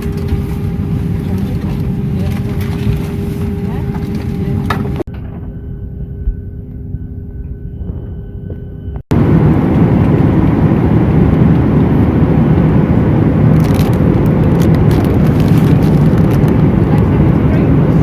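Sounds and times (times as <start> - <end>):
jet airliner cabin roar: 0.0 - 18.0.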